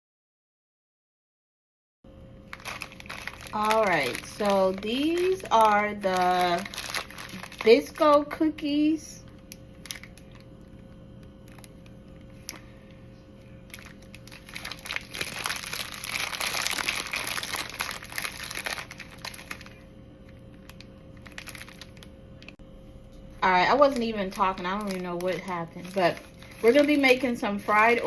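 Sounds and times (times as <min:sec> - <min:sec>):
plastic wrapping crinkling: 0:02.5 - 0:08.5, 0:09.2 - 0:22.6, 0:23.4 - 0:28.0.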